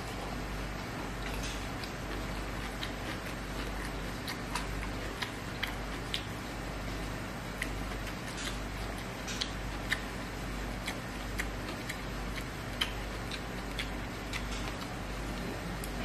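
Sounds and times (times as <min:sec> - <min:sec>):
faint low hum: 0:00.0 - 0:16.0
wet chewing mouth clicks: 0:01.0 - 0:16.0.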